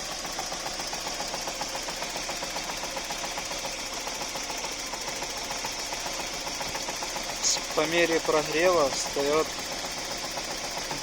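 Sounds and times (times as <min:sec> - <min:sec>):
car engine idling with ticking: 0:00.0 - 0:11.0.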